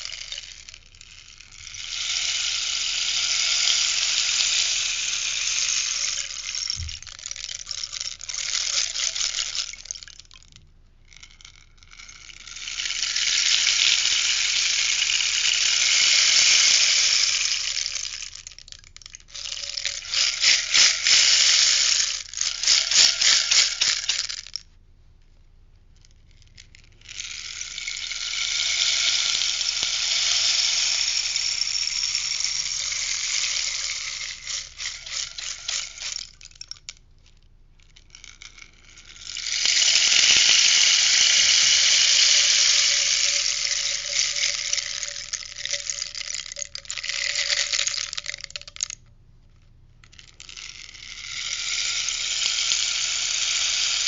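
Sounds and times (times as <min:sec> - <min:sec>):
rainstick pellets pouring: 0:00.0 - 0:24.7, 0:26.0 - 0:37.0, 0:37.8 - 0:49.0, 0:50.0 - 0:54.0.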